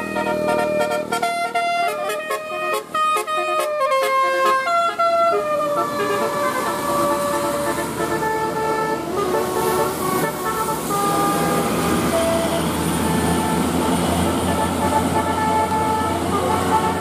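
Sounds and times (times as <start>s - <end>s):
bus engine running: 0.0s - 17.0s
bus musical horn playing tune: 0.0s - 17.0s.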